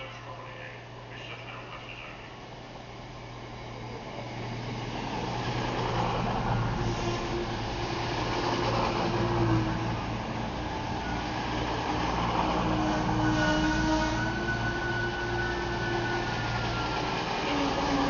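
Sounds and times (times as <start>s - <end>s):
train passing through station: 0.0s - 18.0s.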